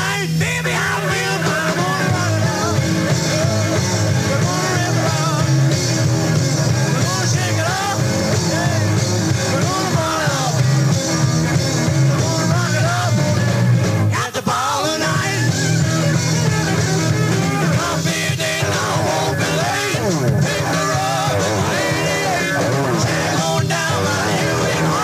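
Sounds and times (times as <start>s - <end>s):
person singing: 0.0s - 5.8s, 6.8s - 10.8s, 12.1s - 13.4s, 14.1s - 15.9s, 17.4s - 25.0s
live rock band playing: 0.0s - 25.0s.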